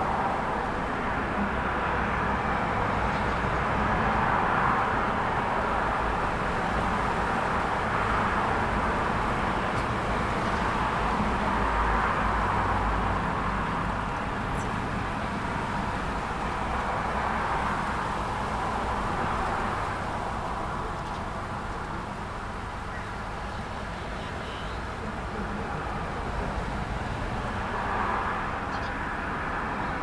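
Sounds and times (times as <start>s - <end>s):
passing cars: 0.0s - 30.0s.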